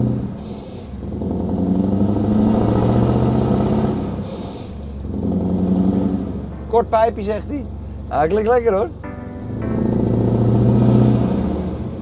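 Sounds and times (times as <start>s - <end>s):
diesel engine pulling hard: 0.0s - 12.0s.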